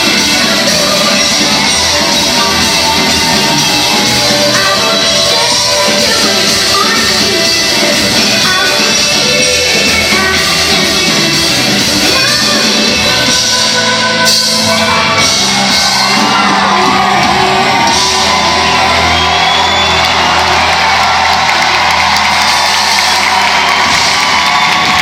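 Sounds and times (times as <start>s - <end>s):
audience shouting and whooping: 0.0s - 25.0s
live pop band with singing: 0.0s - 25.0s.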